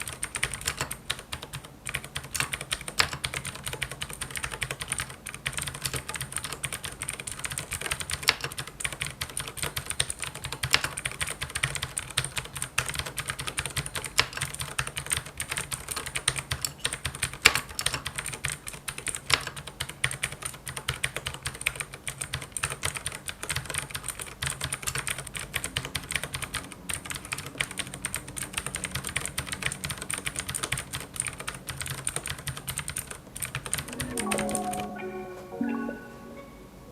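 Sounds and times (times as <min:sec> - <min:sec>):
clicky mechanical keyboard typing: 0:00.0 - 0:34.8.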